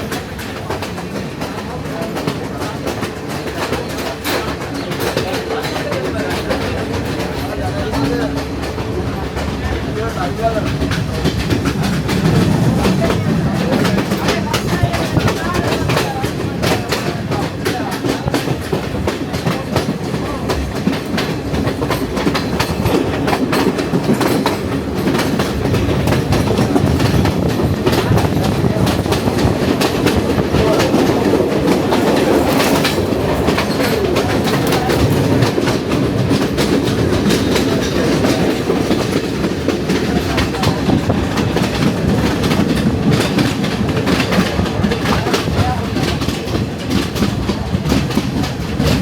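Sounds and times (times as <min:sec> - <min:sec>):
train rumble: 0:00.0 - 0:49.0
wheels clattering over rail joints: 0:00.0 - 0:49.0.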